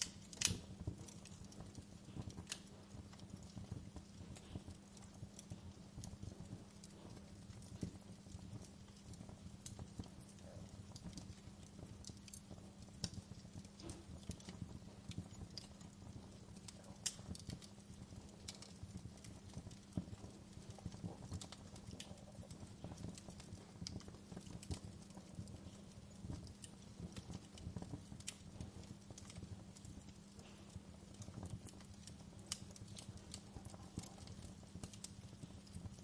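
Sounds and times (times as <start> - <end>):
low fire rumble: 0.0 - 36.0
wood fire crackling and popping: 0.0 - 36.0.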